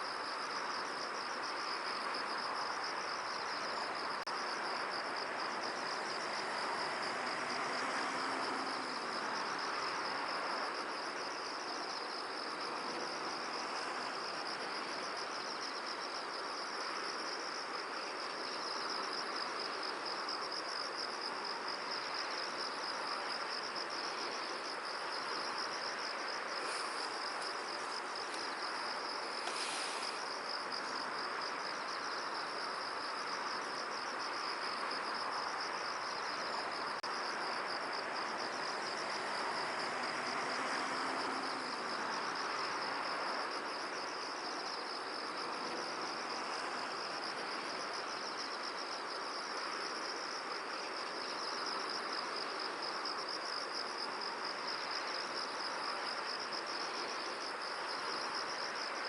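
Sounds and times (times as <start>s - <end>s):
insects trilling: 0.0s - 59.0s
soft wind hiss: 0.0s - 59.0s.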